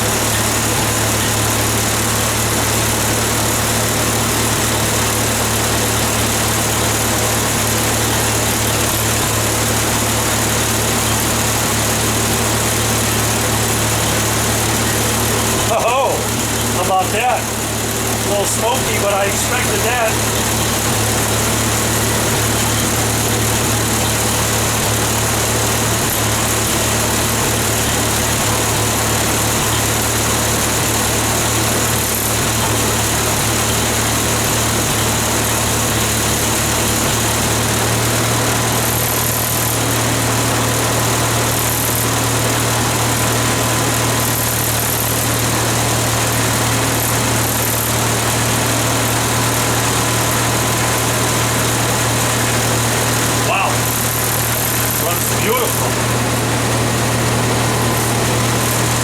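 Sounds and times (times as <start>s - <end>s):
generator engine idling: 0.0s - 59.0s.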